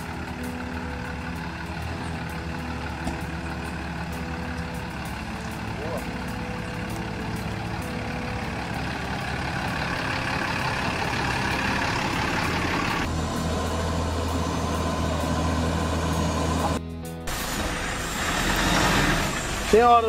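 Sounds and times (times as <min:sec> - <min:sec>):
truck engine running at low speed: 0:00.0 - 0:20.0.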